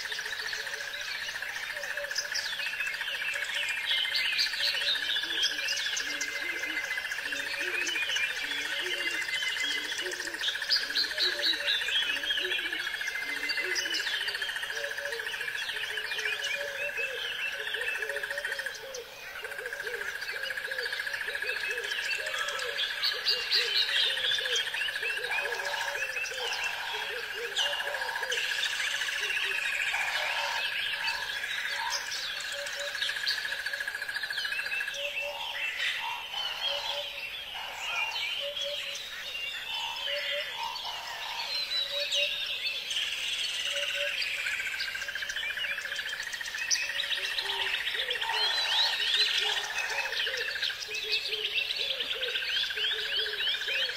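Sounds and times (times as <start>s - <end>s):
birds chirping: 0.0s - 53.9s
frogs calling: 0.0s - 53.9s.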